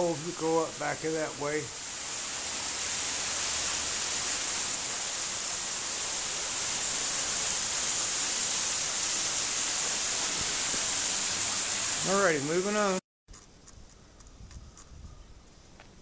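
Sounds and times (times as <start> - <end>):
hiss of running spring water: 0.0 - 13.0.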